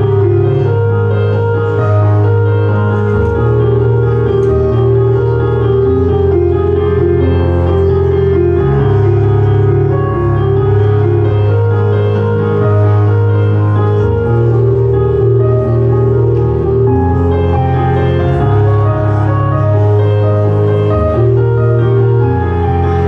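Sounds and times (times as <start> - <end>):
slow instrumental music: 0.0 - 23.0.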